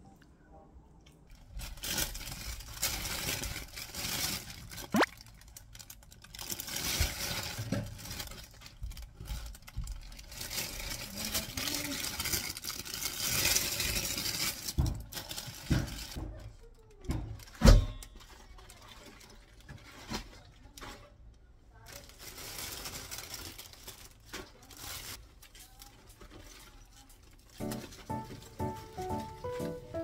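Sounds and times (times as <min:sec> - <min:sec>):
plastic bag crinkling: 0:01.3 - 0:16.2, 0:17.4 - 0:20.9, 0:21.8 - 0:30.0.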